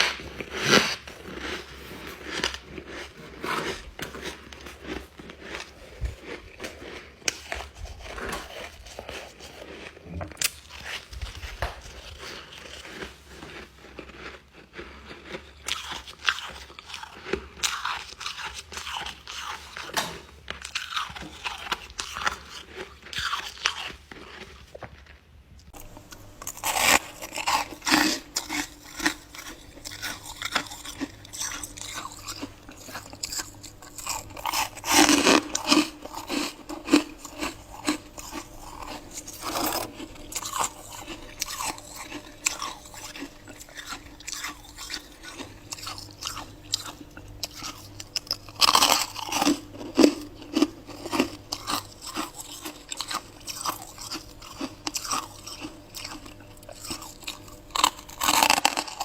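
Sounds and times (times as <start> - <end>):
faint steady hum: 0.0 - 59.0
ice being chewed: 0.0 - 59.0.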